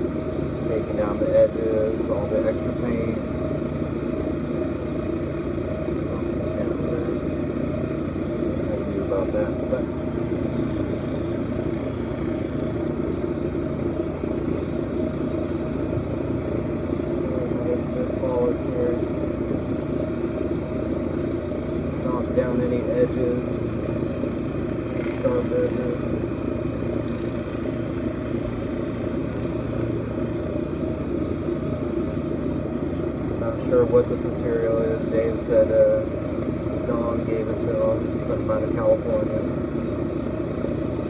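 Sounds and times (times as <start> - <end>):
lapidary wheel motor running: 0.0 - 41.0.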